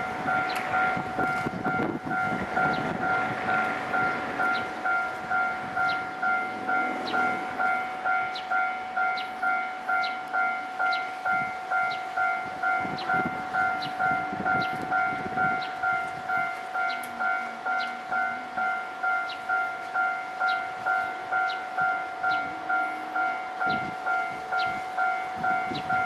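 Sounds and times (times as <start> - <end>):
train rumbling through: 0.0 - 26.0.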